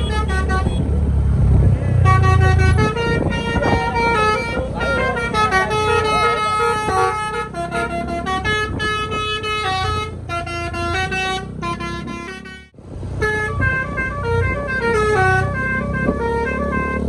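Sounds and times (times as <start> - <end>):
low engine rumble: 0.0 - 17.0
multi-tone air horn melody: 2.0 - 17.0.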